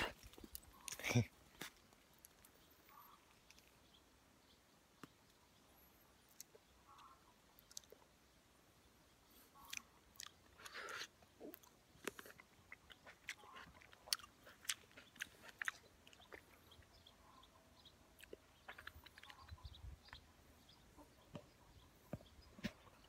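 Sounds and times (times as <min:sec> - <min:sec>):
person chewing plums: 0:00.0 - 0:04.0, 0:04.9 - 0:08.4, 0:09.3 - 0:23.0.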